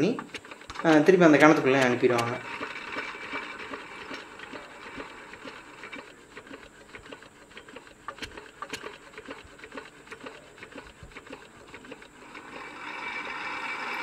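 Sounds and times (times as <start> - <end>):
sharp clicks: 0.0 - 12.1
hoist engine ticking and clatter: 0.0 - 14.0.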